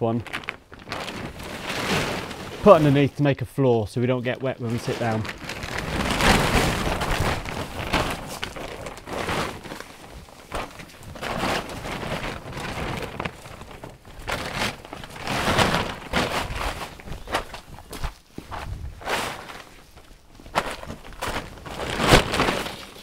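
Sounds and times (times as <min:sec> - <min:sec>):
footsteps on plastic sheet: 0:00.0 - 0:03.4, 0:04.2 - 0:23.0
plastic tarpaulin rustling: 0:00.0 - 0:23.0.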